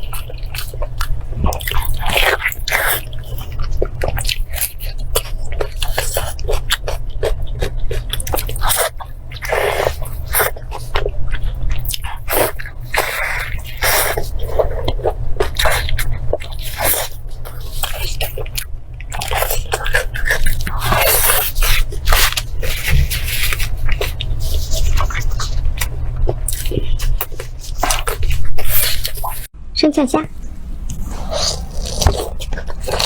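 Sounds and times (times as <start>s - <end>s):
wet chewing: 0.0s - 29.5s, 30.3s - 33.0s
steady low hum: 0.0s - 33.0s.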